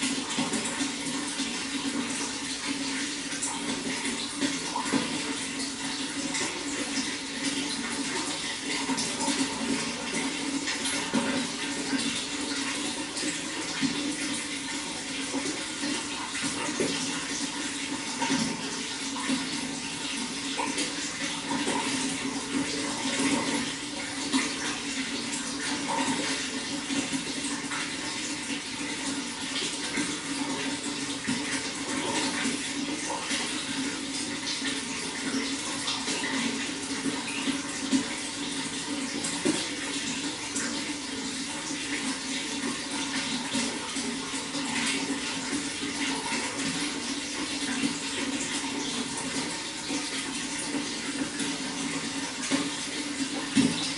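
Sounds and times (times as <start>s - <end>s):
running water splashing and gurgling: 0.0s - 53.9s.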